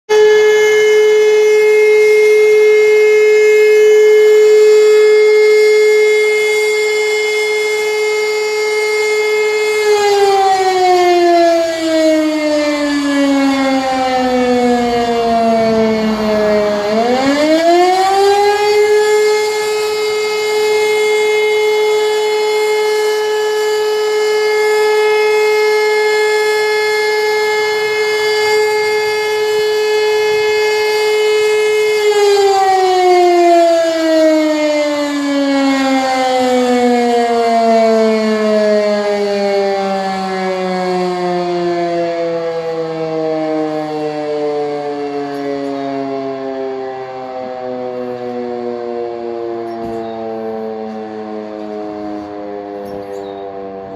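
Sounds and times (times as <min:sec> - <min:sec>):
alarm siren: 0:00.1 - 0:53.9.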